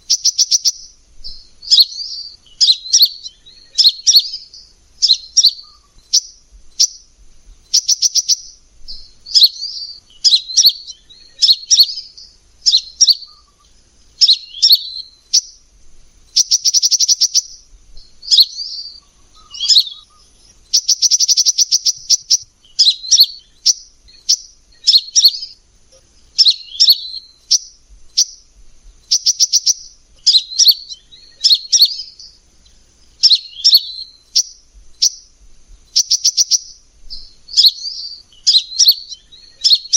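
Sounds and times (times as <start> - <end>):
sunbird twittering and trilling: 0.0 - 39.9.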